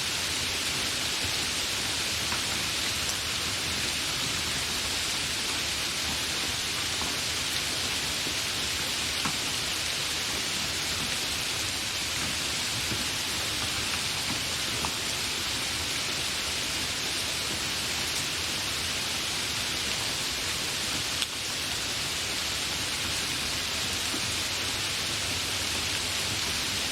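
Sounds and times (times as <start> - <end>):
light rain hiss: 0.0 - 26.9.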